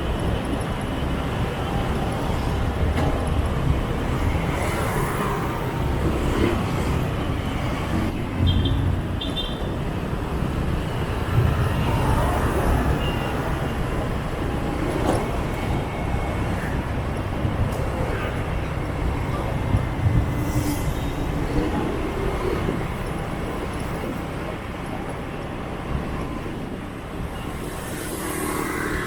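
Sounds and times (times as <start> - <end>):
traffic engine rumble: 0.0 - 29.0.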